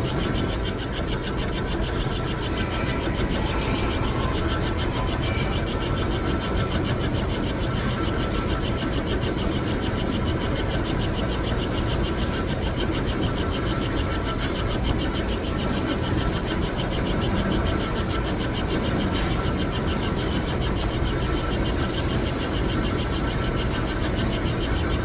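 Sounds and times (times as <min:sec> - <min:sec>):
metal lathe running: 0:00.0 - 0:25.0.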